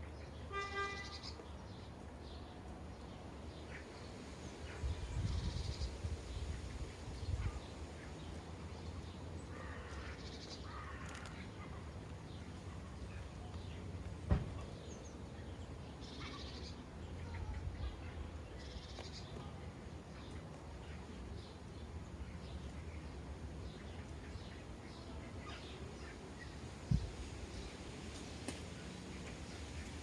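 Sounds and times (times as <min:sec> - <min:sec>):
sparrows chirping: 0:00.0 - 0:30.0.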